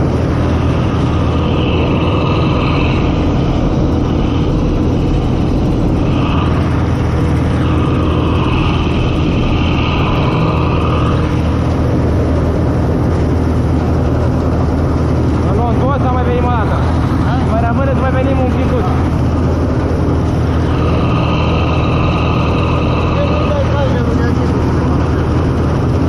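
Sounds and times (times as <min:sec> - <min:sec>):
combine harvester running: 0:00.0 - 0:26.0
high machinery whine: 0:00.0 - 0:26.0.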